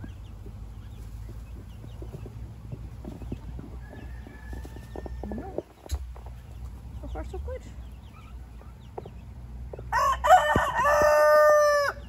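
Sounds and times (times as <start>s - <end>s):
chickens and turkeys clucking: 0.0s - 12.0s.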